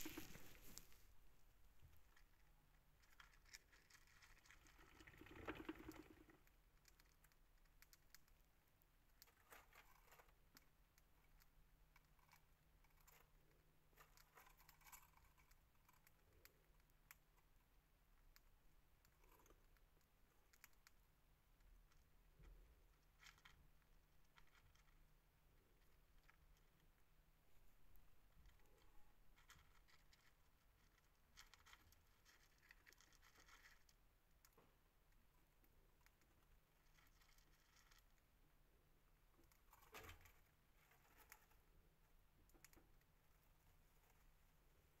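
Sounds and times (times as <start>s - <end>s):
mouse nibbling and rustling feed: 0.0s - 45.0s.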